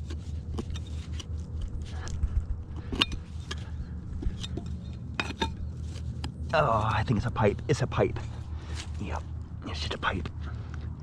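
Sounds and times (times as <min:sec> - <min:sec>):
dirt scraping and crunching: 0:00.0 - 0:11.0.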